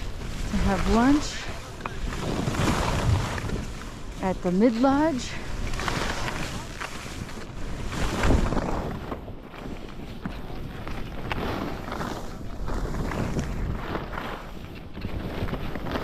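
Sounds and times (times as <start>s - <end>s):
skis swishing over snow: 0.0s - 16.0s
wind buffeting microphone: 0.0s - 16.0s.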